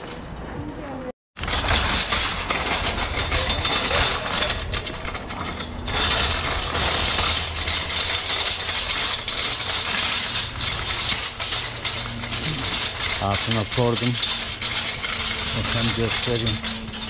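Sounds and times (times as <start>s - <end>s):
shopping cart rattling over bricks: 1.4s - 17.0s.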